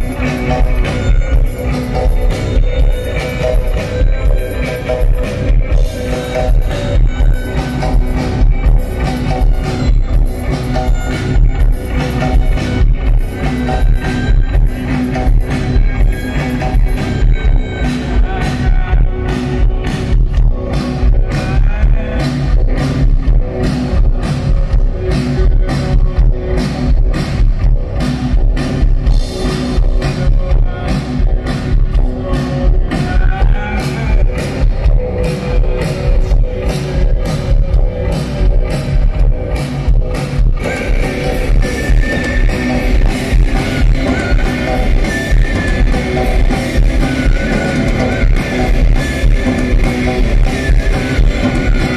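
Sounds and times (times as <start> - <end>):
drum kit beat: 0.0 - 51.9
electric guitar: 0.0 - 51.9.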